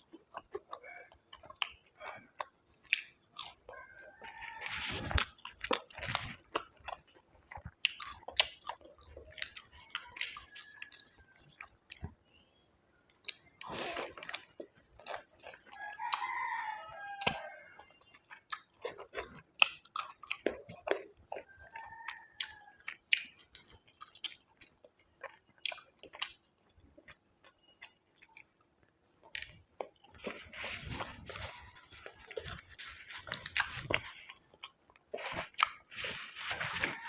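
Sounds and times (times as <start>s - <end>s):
food crunching: 0.0s - 12.3s, 13.1s - 37.0s
person chewing: 0.0s - 12.3s, 13.1s - 37.0s.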